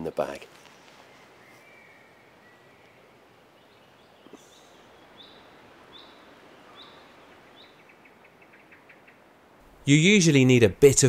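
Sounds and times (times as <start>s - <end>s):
woodland ambience: 0.0s - 11.0s.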